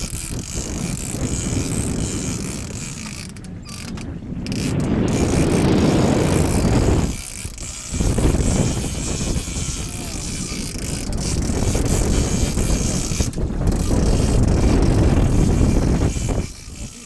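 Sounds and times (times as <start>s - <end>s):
boat engine running: 0.0s - 17.0s
wind buffeting microphone: 0.0s - 17.0s.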